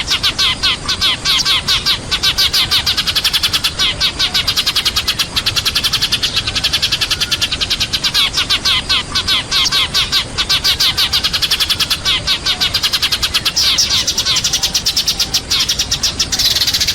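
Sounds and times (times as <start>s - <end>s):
sparrows chirping: 0.0s - 16.9s.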